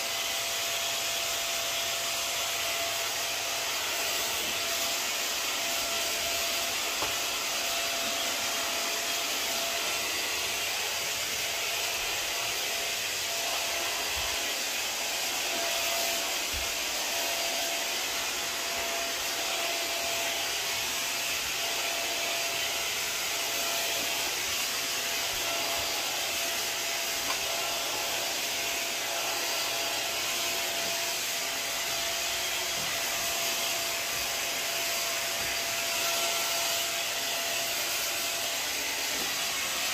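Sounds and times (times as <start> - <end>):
vacuum mop suction rushing: 0.0 - 39.9.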